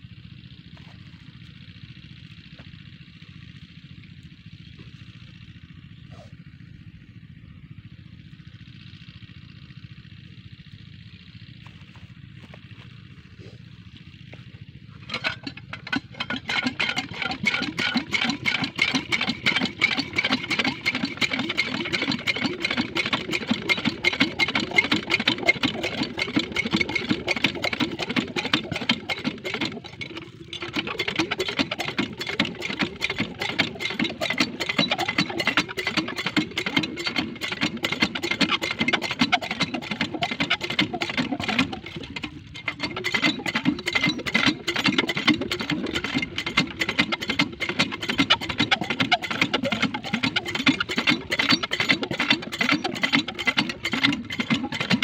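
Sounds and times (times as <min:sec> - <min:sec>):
diesel engine knocking: 0:00.0 - 0:55.0.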